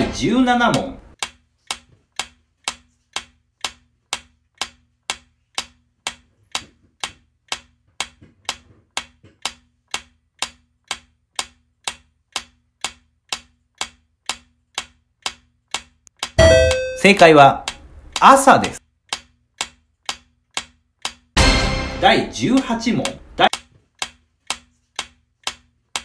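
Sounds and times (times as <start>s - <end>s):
clock ticking timer: 0.1s - 26.0s.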